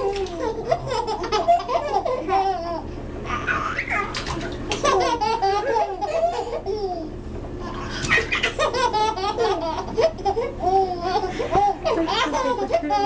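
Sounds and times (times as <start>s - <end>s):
babies giggling: 0.0s - 13.0s.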